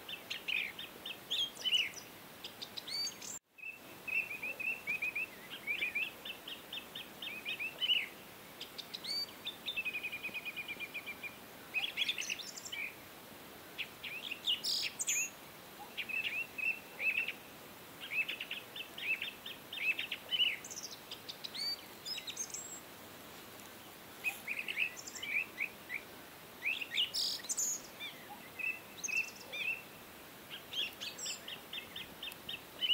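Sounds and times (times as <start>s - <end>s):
small birds chirping: 0.0s - 13.0s, 13.7s - 32.9s.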